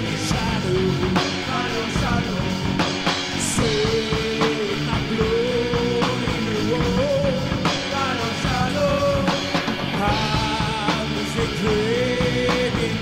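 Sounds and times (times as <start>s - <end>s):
rock music with drums: 0.0s - 13.0s.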